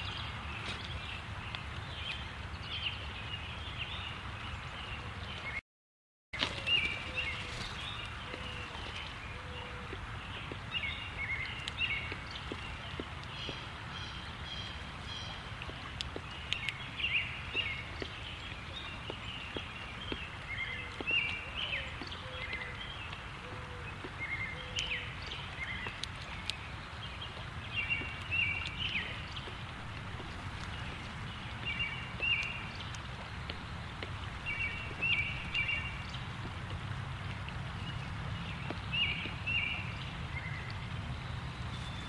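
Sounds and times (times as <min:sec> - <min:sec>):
birds chirping: 0:06.4 - 0:42.0.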